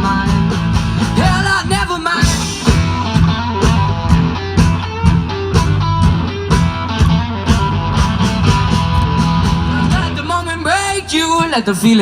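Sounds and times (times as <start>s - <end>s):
bass: 0.0s - 12.0s
drums keeping steady beat: 0.0s - 12.0s
electric guitar: 0.0s - 12.0s.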